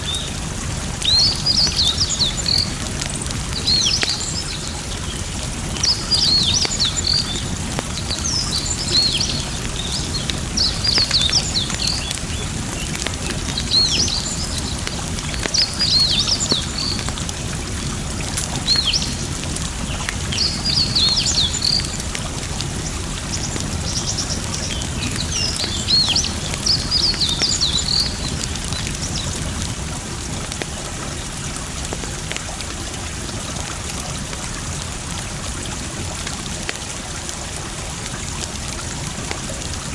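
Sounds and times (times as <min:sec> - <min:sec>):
campfire crackling: 0:00.0 - 0:39.9
flowing water: 0:00.0 - 0:39.9.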